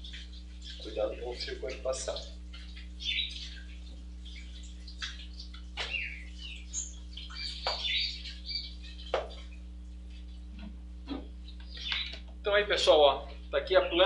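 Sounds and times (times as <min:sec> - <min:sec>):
small birds chirping: 0:00.0 - 0:10.5, 0:11.3 - 0:14.0
steady low hum: 0:00.0 - 0:14.0.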